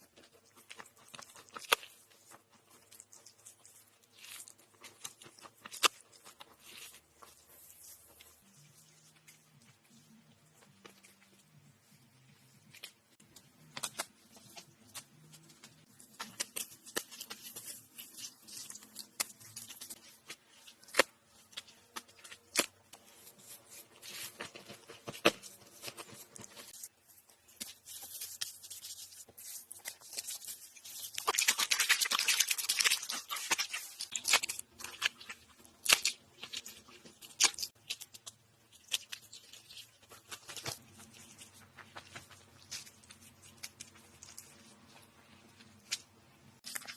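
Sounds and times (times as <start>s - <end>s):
rustling and tearing: 0.0s - 46.9s.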